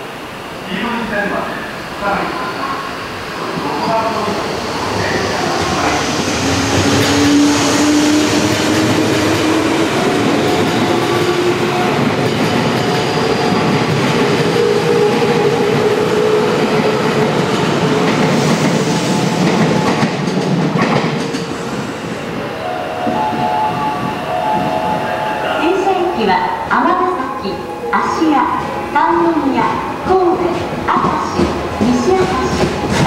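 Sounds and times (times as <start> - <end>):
train wheels rumbling: 1.0 - 33.0.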